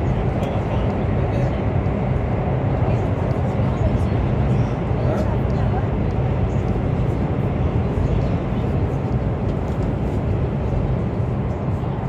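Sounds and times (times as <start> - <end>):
train cabin low rumble: 0.0 - 12.0.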